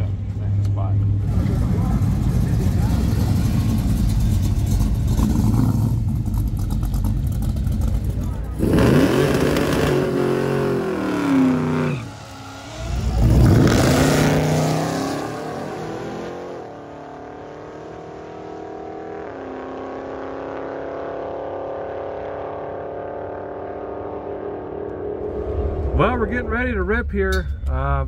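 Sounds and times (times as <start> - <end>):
drag car engine at full throttle: 0.0 - 26.4.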